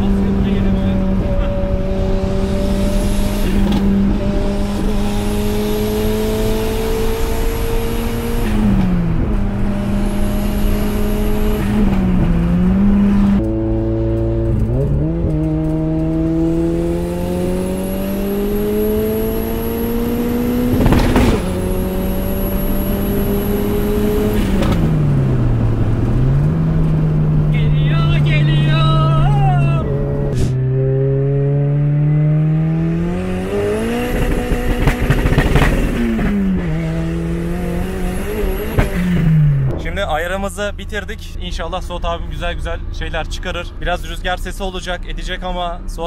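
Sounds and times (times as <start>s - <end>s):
car engine pulling hard: 0.0s - 46.0s.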